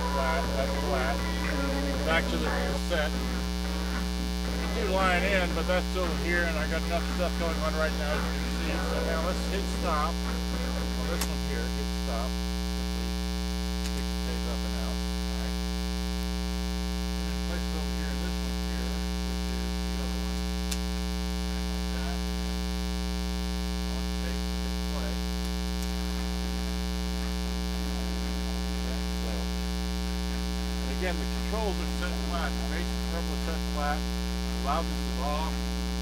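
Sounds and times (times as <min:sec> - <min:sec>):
mains hum: 0:00.0 - 0:36.0.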